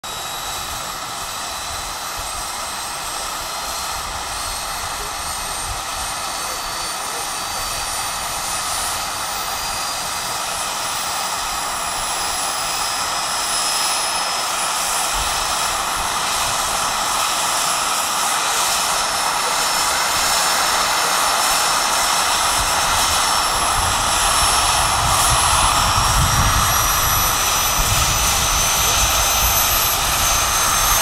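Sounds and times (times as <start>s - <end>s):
model helicopter turbine whine: 0.0s - 31.0s
rush of air from rotor: 0.3s - 31.0s.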